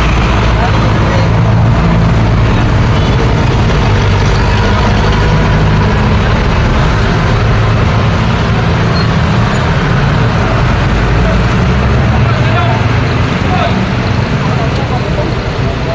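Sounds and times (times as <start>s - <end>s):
motor scooters pulling away: 0.0s - 15.9s
truck engine running: 0.0s - 15.9s.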